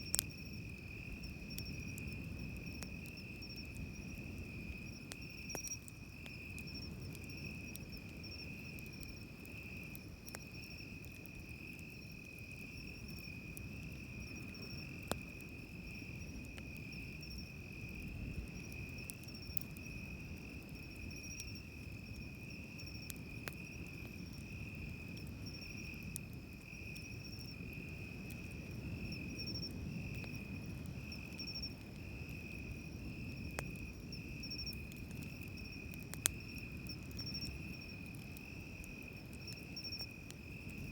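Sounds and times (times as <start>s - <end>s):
campfire crackles: 0.0s - 40.9s
insects chirping: 0.0s - 40.9s.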